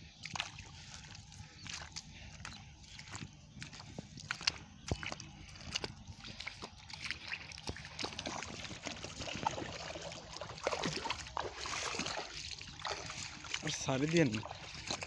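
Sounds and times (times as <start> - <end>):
shallow water splashing: 0.2 - 15.0
water dripping: 0.2 - 15.0.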